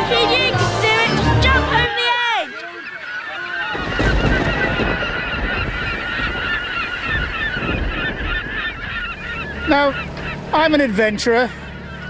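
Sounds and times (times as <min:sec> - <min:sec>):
flock of birds calling: 0:00.0 - 0:12.0.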